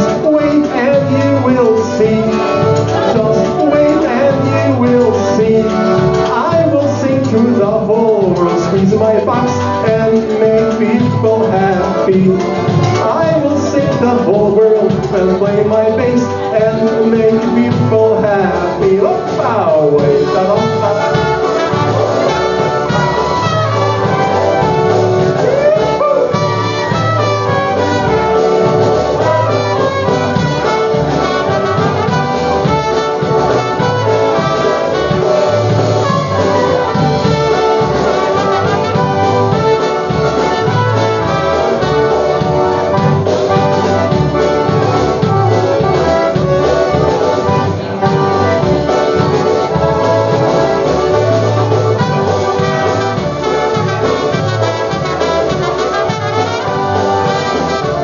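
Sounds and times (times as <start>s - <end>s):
horns playing tune: 0.0s - 58.0s
oom-pah bass beat: 0.0s - 58.0s
polka band playing: 0.0s - 58.0s.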